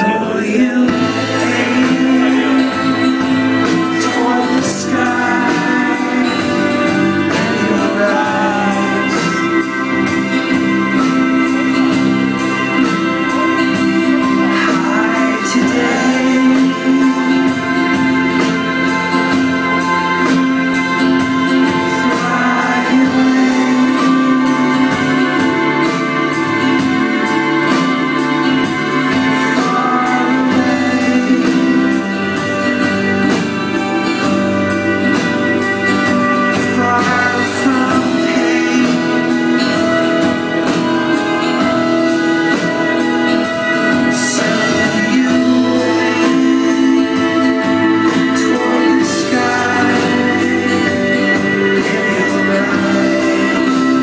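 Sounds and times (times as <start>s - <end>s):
live rock band playing: 0.0s - 54.0s
person singing: 0.0s - 54.0s.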